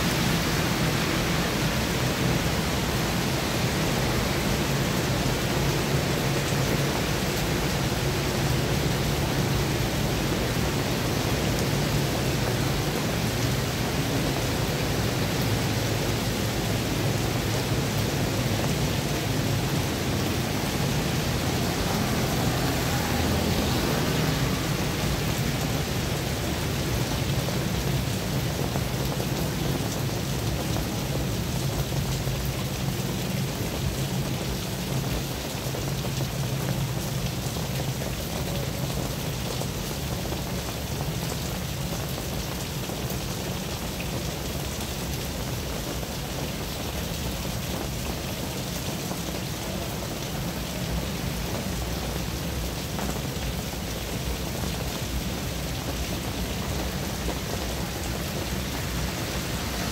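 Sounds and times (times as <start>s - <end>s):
rain on wet road: 0.0s - 59.9s
tyres swishing on wet asphalt: 0.0s - 59.9s.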